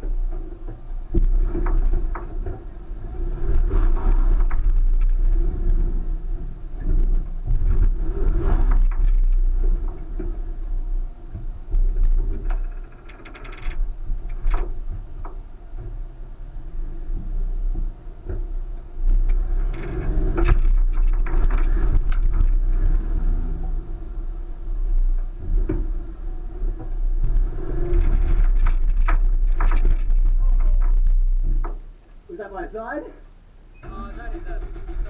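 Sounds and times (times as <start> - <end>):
car engine labouring: 0.0 - 32.7, 33.8 - 35.0.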